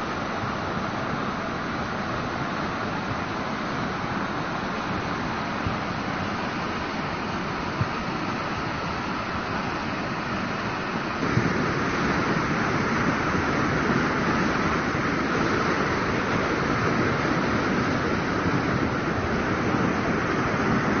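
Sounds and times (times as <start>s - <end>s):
torrent of water rushing: 0.0s - 21.0s.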